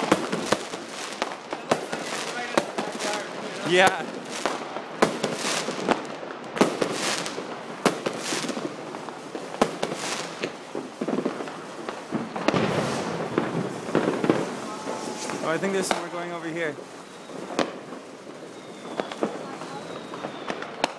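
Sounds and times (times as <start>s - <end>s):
firecracker bangs: 0.0s - 20.9s
fireworks crackling: 0.0s - 20.9s
fireworks hissing: 0.0s - 20.9s.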